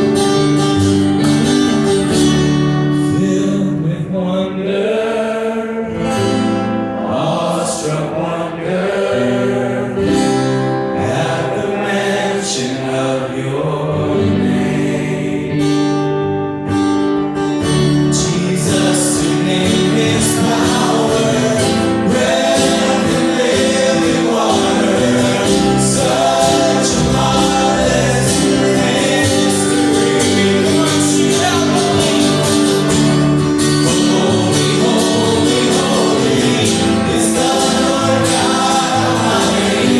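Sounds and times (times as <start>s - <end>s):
group of singers: 0.0s - 16.4s, 17.8s - 39.9s
gospel band with guitar: 0.0s - 39.9s.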